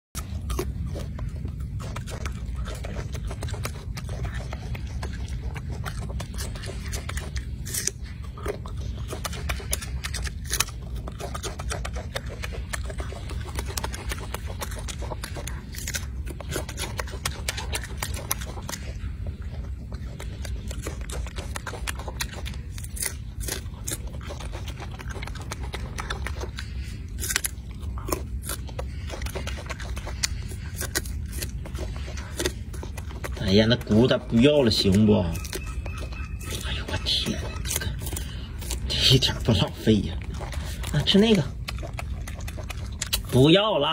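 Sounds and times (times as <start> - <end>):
monkey chewing food: 0.1 - 43.9
steady low rumble: 0.1 - 43.9.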